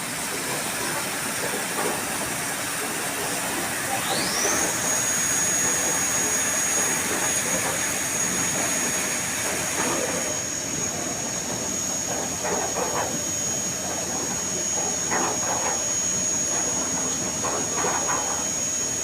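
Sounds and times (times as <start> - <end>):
machine spindle whine: 0.0 - 19.0.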